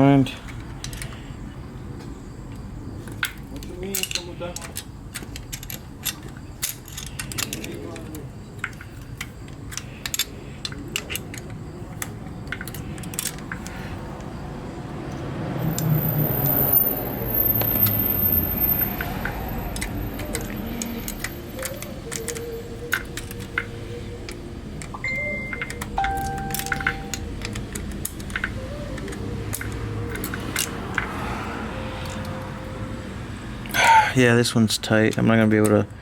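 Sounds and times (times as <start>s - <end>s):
metal parts and tools clinking: 0.4s - 1.2s, 2.5s - 14.3s, 15.1s - 32.5s.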